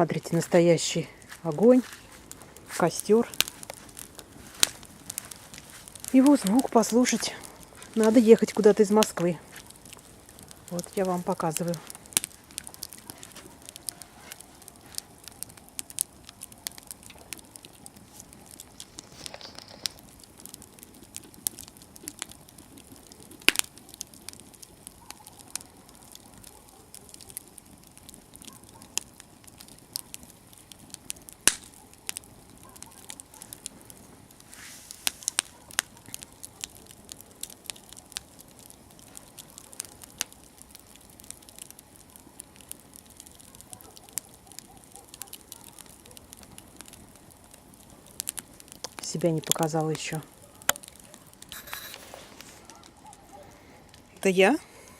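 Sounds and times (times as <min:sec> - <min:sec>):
campfire crackling and popping: 0:00.0 - 0:54.9
faint fire hiss: 0:00.0 - 0:54.9.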